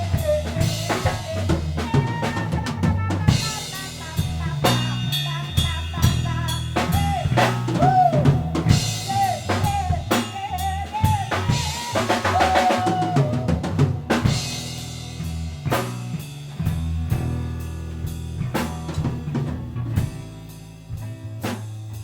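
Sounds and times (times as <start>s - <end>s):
bass guitar: 0.0s - 22.0s
drum kit: 0.0s - 22.0s.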